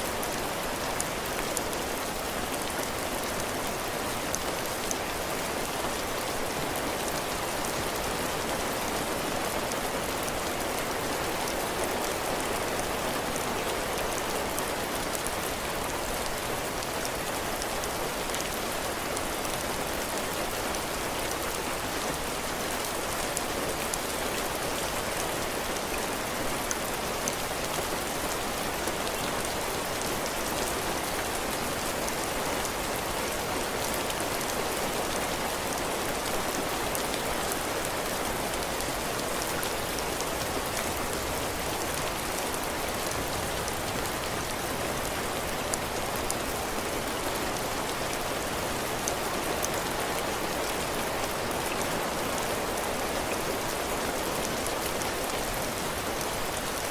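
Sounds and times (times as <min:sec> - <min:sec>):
heavy rain pattering: 0:00.0 - 0:56.9.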